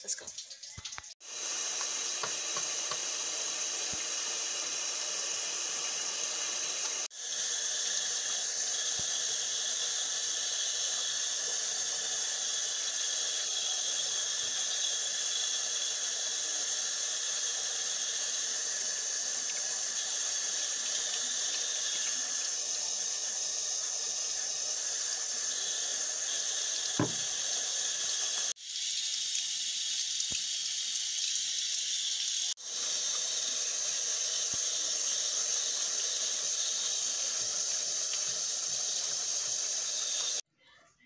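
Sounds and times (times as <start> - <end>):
faucet water splashing into basin: 0.0 - 40.4.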